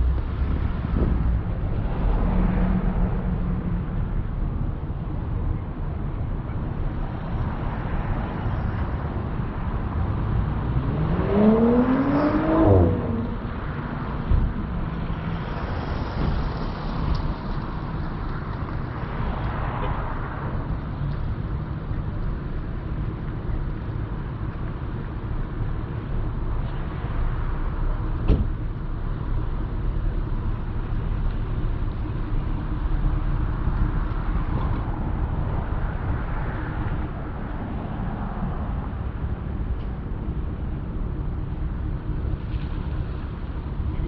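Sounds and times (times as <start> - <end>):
car engine rumbling: 0.0 - 44.0.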